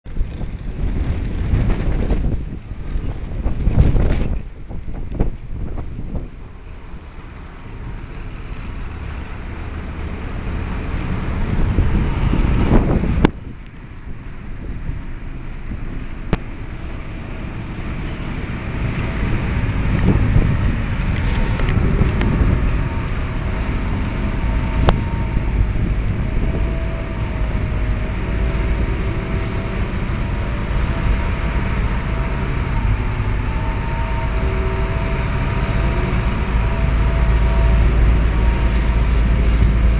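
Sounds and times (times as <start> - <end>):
wind buffeting microphone: 0.0 - 39.9
excavator diesel engine running: 0.1 - 39.9.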